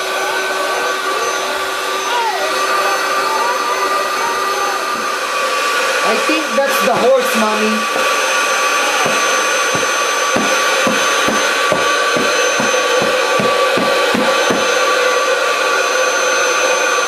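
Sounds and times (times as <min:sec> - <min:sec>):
electric air pump whining: 0:00.0 - 0:17.0.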